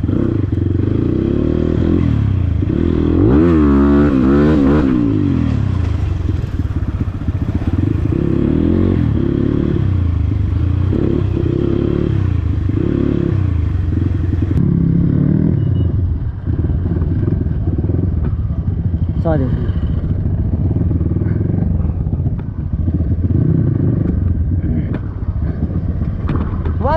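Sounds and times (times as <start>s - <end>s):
dirt bike engine revving: 0.0s - 21.8s.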